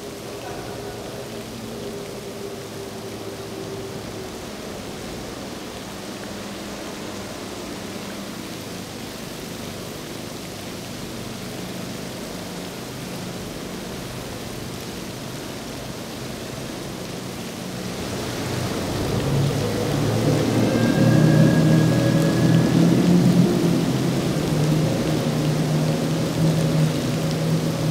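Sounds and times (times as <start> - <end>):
outboard boat engines droning: 0.0 - 27.9
rain hissing: 0.0 - 27.9.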